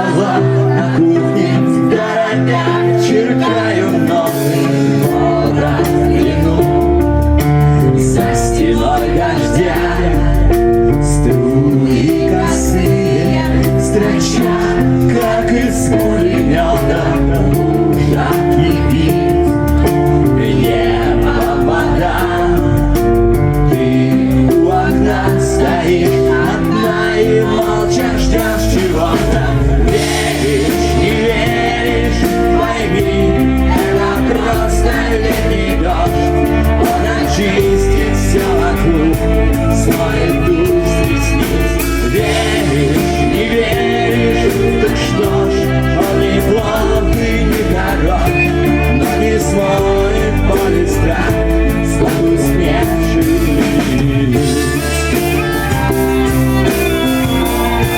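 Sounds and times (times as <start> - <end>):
live rock band: 0.0 - 57.9
person singing: 0.0 - 57.9
drums: 1.3 - 57.9.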